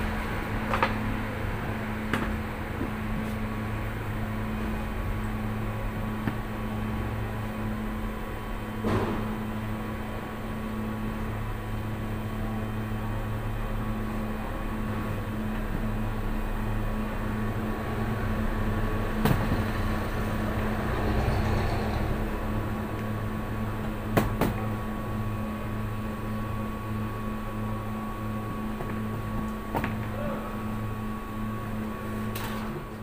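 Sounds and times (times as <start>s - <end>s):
machinery humming: 0.0s - 33.0s.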